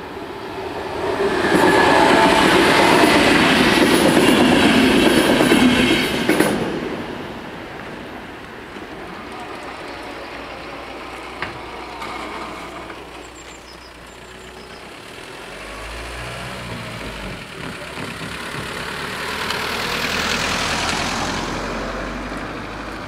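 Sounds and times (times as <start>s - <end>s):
tyre and road noise: 0.0s - 23.0s.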